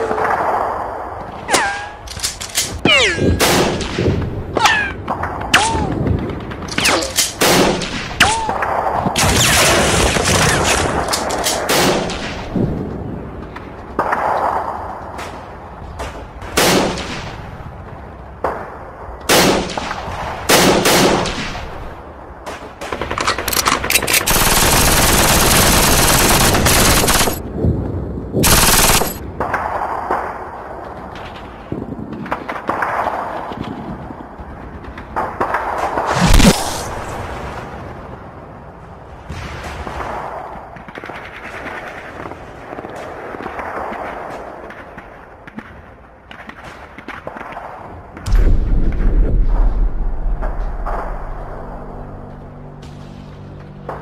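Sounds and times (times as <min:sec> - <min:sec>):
gunfire shots and bursts: 0:01.4 - 0:12.8, 0:13.5 - 0:27.6, 0:28.4 - 0:34.1, 0:34.7 - 0:37.1, 0:39.3 - 0:51.8.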